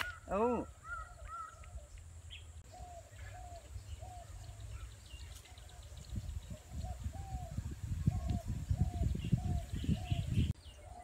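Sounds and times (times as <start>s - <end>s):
higher bird chirps: 0.0s - 11.0s.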